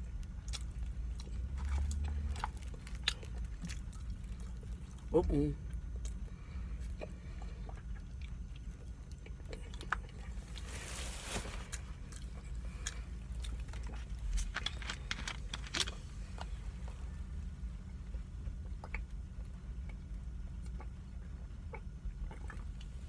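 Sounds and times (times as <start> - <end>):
chewing and smacking: 0.0 - 10.7, 11.6 - 23.0
steady low hum: 0.0 - 23.0.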